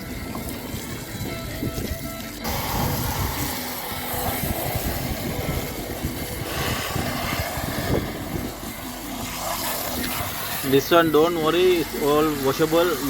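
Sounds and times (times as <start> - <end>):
hose water spraying and splashing: 0.0 - 13.0.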